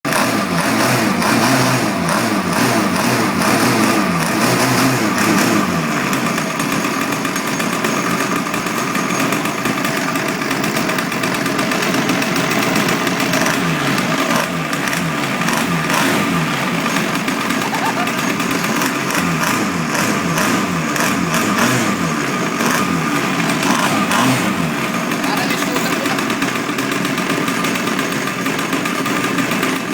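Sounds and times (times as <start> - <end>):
two-stroke engine running: 0.0 - 29.9.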